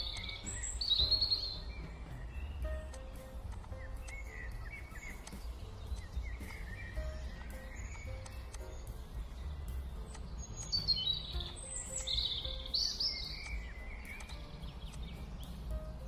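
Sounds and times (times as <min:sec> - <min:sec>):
background music: 0:00.0 - 0:16.0
birds chirping: 0:00.0 - 0:16.0.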